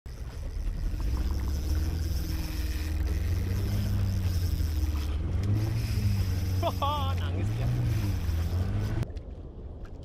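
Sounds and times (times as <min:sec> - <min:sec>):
boat engine humming: 0:00.0 - 0:09.9
water wash: 0:00.1 - 0:10.0.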